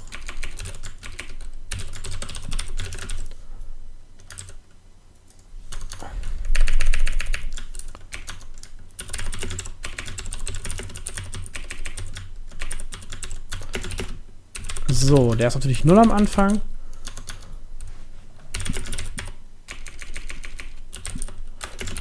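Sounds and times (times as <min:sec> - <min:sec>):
computer keyboard typing: 0:00.0 - 0:03.3, 0:04.2 - 0:04.6, 0:05.3 - 0:17.5, 0:18.5 - 0:22.0.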